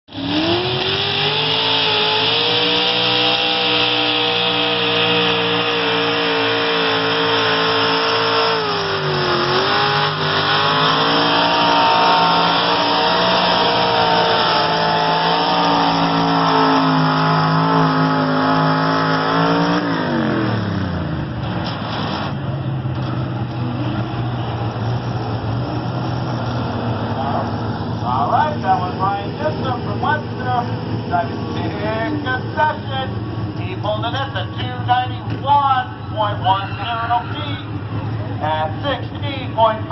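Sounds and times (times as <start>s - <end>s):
truck engine revving under load: 0.1s - 39.9s.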